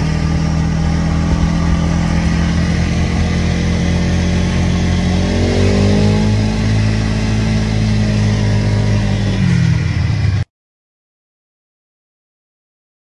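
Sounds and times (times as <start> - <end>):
snowmobile engine running: 0.0 - 10.5.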